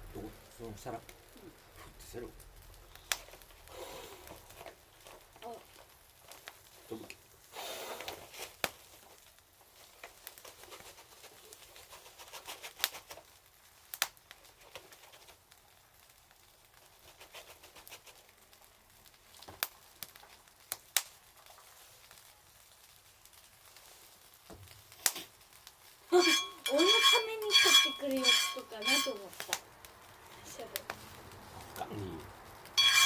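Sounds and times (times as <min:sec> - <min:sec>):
sharp fire pops: 0:00.0 - 0:11.7, 0:12.6 - 0:26.2, 0:27.4 - 0:33.0
faint hiss: 0:00.0 - 0:26.2, 0:29.1 - 0:32.8
wood fire crackling: 0:00.0 - 0:33.0.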